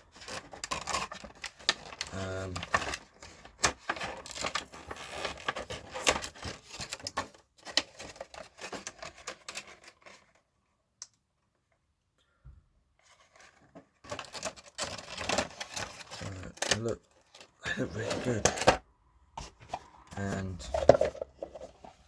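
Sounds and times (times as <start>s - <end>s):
packaging crackling and rustling: 0.0s - 10.5s, 13.0s - 18.8s, 19.4s - 22.0s.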